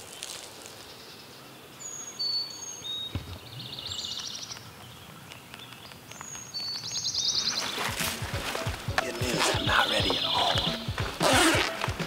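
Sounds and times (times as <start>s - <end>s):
songbird singing with trill: 1.0s - 11.0s.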